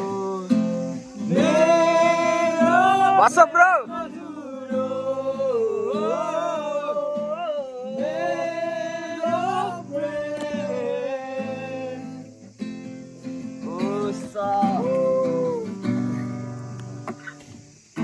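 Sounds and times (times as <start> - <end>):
man singing: 0.0 - 12.7, 13.4 - 16.0
acoustic guitar strumming: 0.0 - 18.0.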